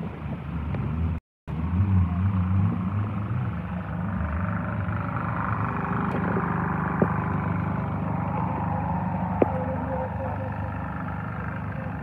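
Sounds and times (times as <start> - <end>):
car engine running with low drone: 0.0 - 12.0.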